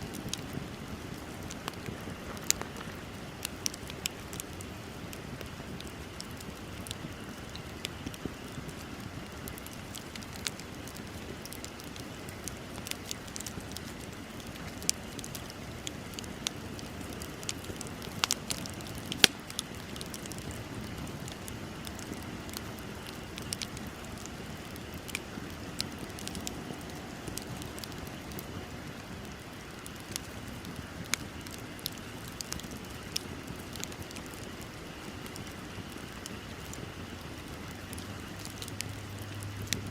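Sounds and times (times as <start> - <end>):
bonfire hiss: 0.0 - 39.9
sharp crackles and pops: 0.0 - 39.9.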